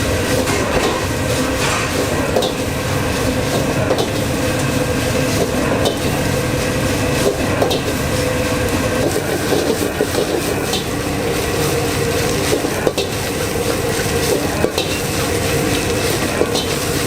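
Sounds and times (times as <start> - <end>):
rice sizzling in a wok: 0.0 - 17.0.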